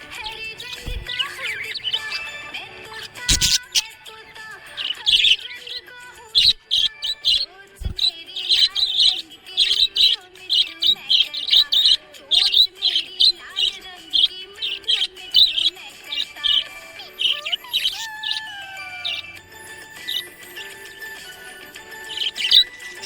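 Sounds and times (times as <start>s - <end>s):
budgies chirping: 0.0s - 23.0s.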